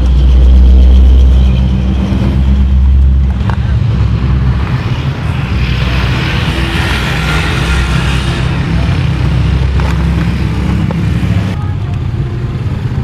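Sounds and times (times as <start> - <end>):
low engine rumble: 0.0 - 13.0
road noise hiss: 0.0 - 13.0.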